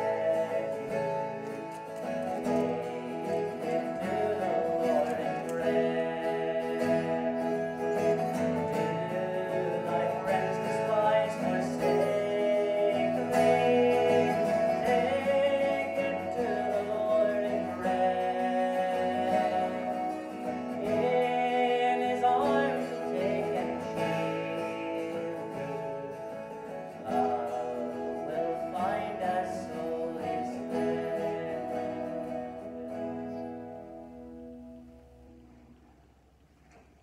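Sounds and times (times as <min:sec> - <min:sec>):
man singing: 0:00.0 - 0:34.0
strummed acoustic guitar: 0:00.0 - 0:37.0.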